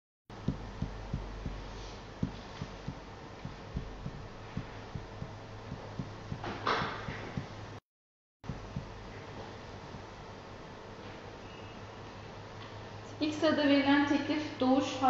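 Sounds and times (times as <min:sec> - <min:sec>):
steady low hum: 0:00.3 - 0:07.8, 0:08.4 - 0:13.3.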